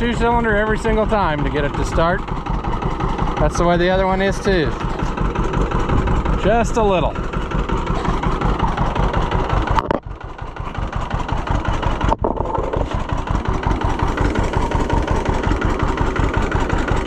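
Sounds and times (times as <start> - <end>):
two-cylinder engine idling: 0.0 - 17.0.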